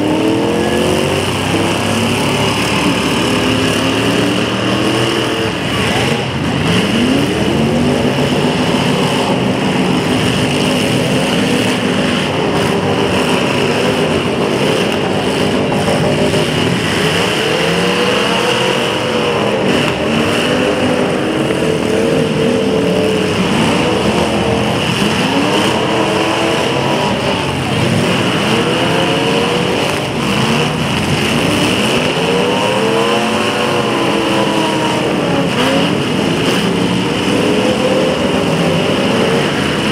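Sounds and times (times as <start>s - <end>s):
car engines revving hard: 0.0s - 39.9s.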